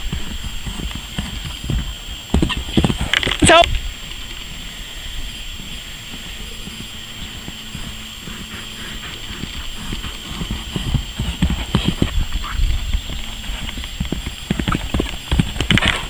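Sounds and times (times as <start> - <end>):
pony hoofbeats on turf: 0.0 - 4.7, 5.4 - 16.0.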